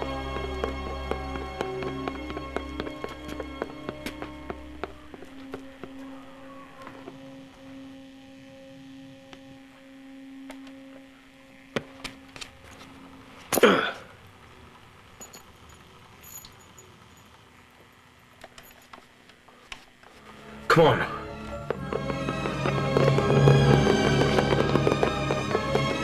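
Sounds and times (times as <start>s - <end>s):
low humming tone: 0.0s - 19.5s, 20.1s - 26.0s.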